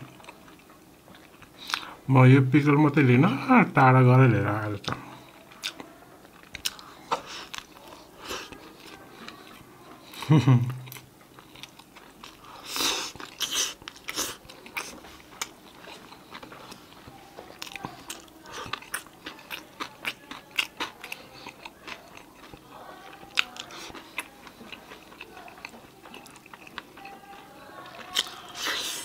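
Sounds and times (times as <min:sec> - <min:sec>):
person chewing crunchy food: 0:00.0 - 0:02.0, 0:04.8 - 0:29.0.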